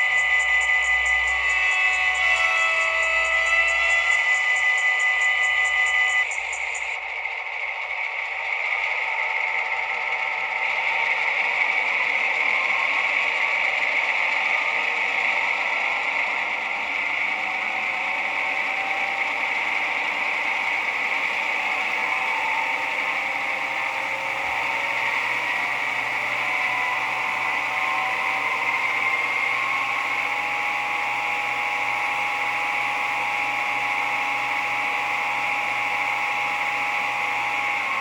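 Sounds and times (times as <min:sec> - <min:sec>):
diesel locomotive whining: 0:00.0 - 0:38.0.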